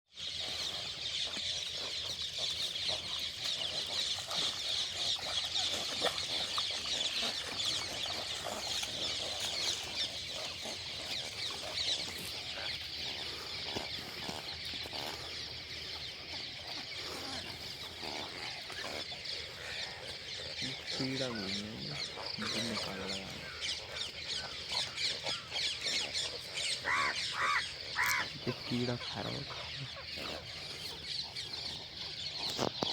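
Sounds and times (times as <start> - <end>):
many birds chirping: 0.1 - 32.9.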